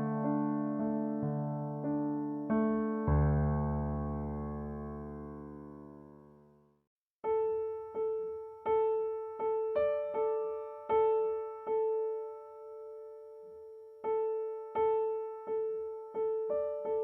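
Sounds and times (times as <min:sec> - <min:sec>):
piano music: 0:00.0 - 0:06.5, 0:07.2 - 0:17.0.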